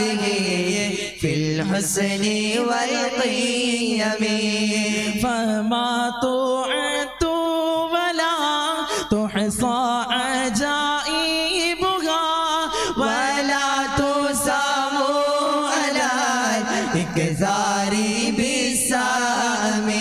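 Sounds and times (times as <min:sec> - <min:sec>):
men chanting devotional song: 0:00.0 - 0:20.0.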